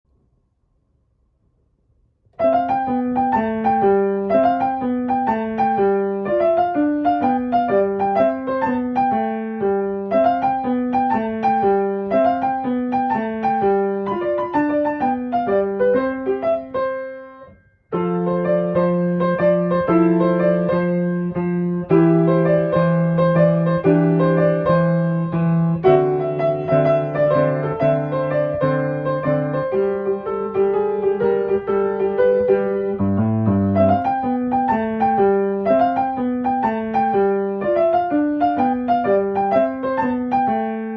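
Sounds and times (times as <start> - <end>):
piano music: 2.3 - 40.9.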